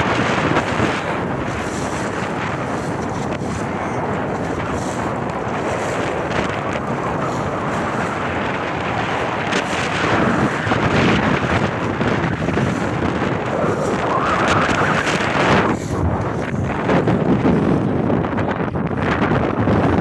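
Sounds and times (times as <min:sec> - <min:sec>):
water wash: 0:00.0 - 0:20.0
wind buffeting microphone: 0:00.0 - 0:20.0.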